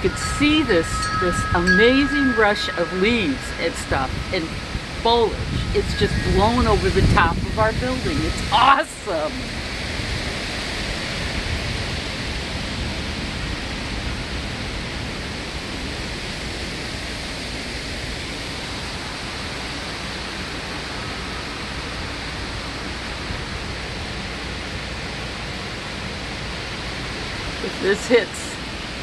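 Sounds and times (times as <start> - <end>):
strong wind rushing: 0.0 - 24.6.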